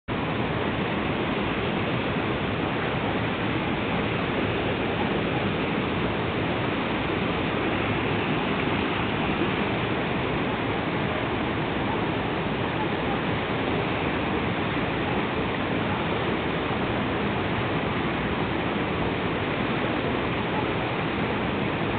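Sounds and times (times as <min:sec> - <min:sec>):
river rapids rushing over rocks: 0:00.1 - 0:21.9.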